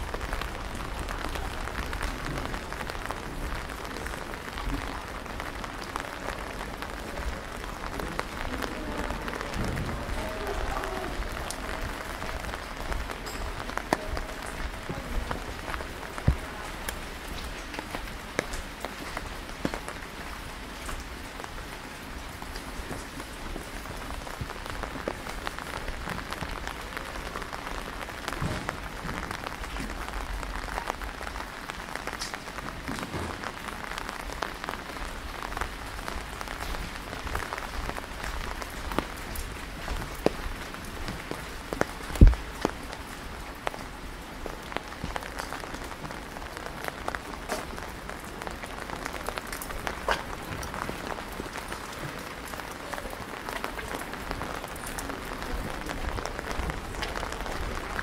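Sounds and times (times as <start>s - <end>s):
raindrops ticking on surfaces: 0.0s - 58.0s
steady rain hissing: 0.0s - 58.0s.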